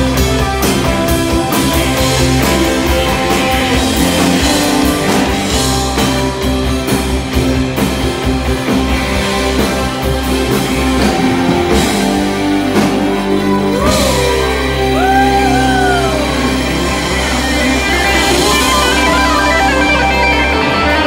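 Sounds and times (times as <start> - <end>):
drum kit beat: 0.0 - 21.0
electric guitar: 0.0 - 21.0
live rock band playing: 0.0 - 21.0.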